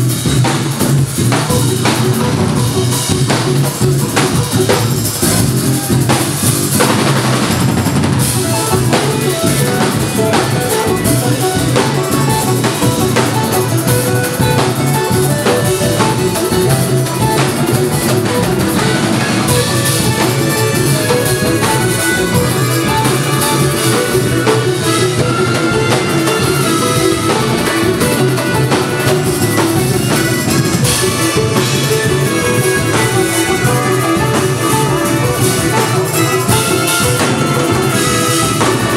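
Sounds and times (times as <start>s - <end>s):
funk band playing: 0.0s - 38.9s.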